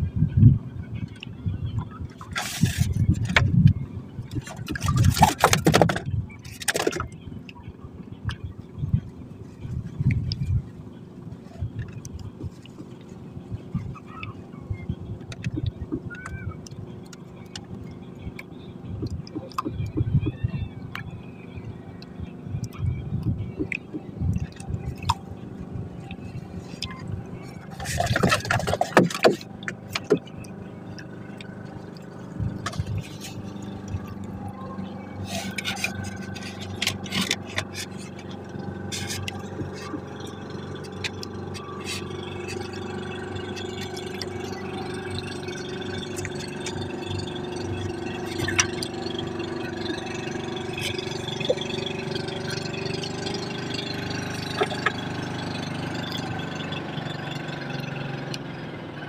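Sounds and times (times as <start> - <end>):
boat engine humming: 0.0 - 59.0.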